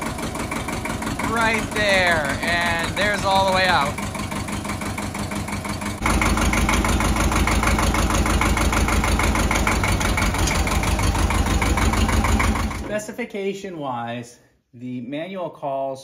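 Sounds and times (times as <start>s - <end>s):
diesel tractor engine idling: 0.0s - 12.9s.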